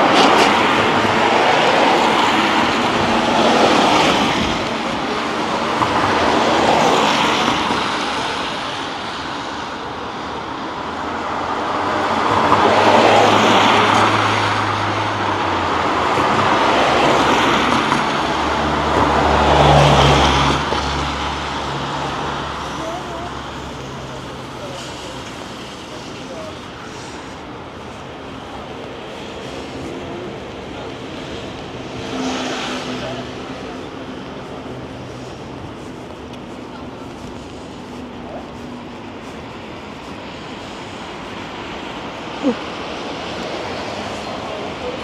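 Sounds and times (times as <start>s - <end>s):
cars passing on wet road: 0.0s - 45.0s
heavy vehicle engine hum: 0.0s - 45.0s.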